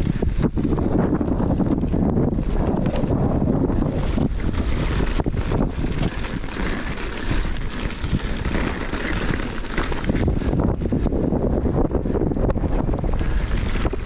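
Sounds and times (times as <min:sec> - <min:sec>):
bike tyres on gravel: 0:00.0 - 0:14.0
wind buffeting microphone: 0:00.0 - 0:14.0
bike knocks and rattles: 0:00.1 - 0:14.0.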